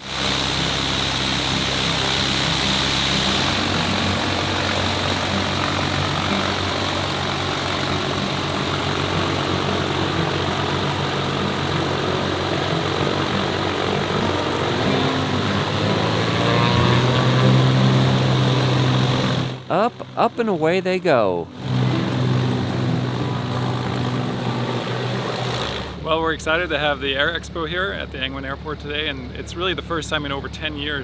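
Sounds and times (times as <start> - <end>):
propeller airplane engine: 0.0 - 30.4.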